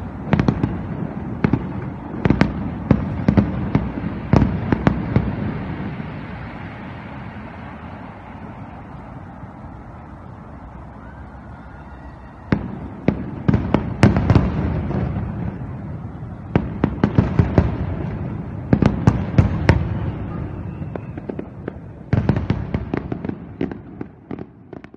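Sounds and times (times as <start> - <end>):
background noise: 0.0 - 24.9
fireworks bangs and crackles: 0.0 - 24.9.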